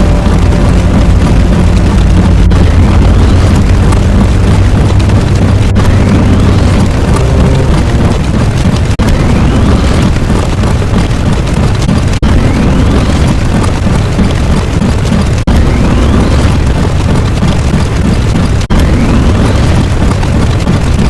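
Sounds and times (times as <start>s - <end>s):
explosive rumbling: 0.0s - 21.0s.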